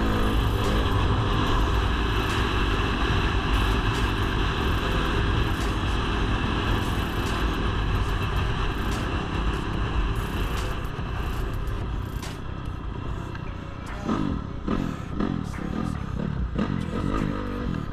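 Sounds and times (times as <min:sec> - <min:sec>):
dirt bike engine running: 0:00.0 - 0:17.9.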